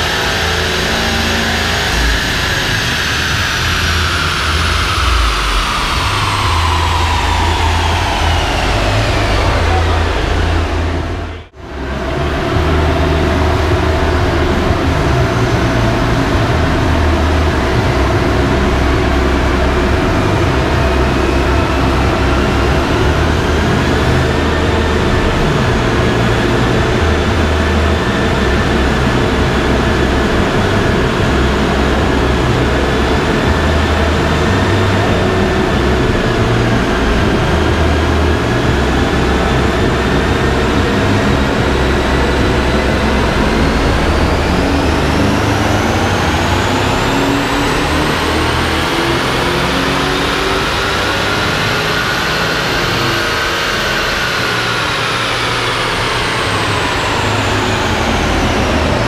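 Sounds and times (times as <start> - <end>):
car engine under load: 0.0 - 59.0
high whine: 0.0 - 59.0.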